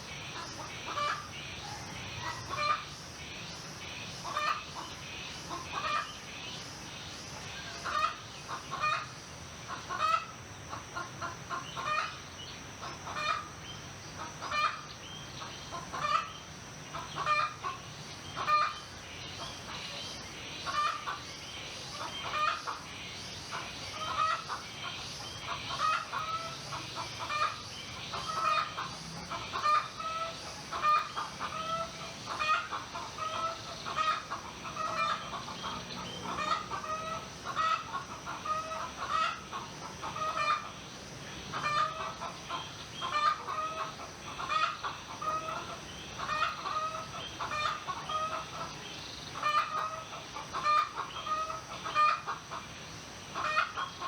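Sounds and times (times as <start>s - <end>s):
chickens clucking: 0.0s - 3.0s, 4.2s - 6.1s, 7.7s - 9.1s, 9.7s - 13.5s, 14.2s - 54.0s.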